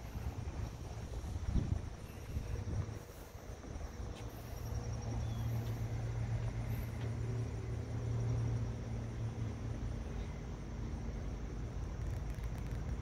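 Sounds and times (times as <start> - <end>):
faint insect chirps: 0.0 - 13.0.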